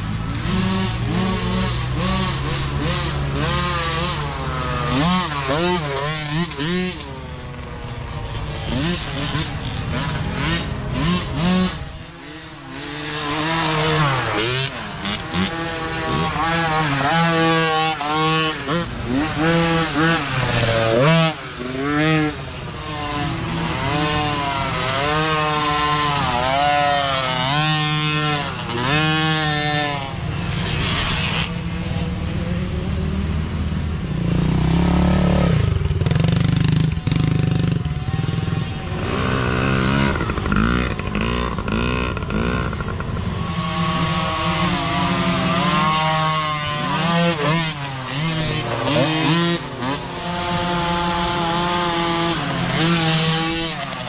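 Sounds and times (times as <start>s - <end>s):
mini dirt bike engines revving: 0.0s - 54.0s.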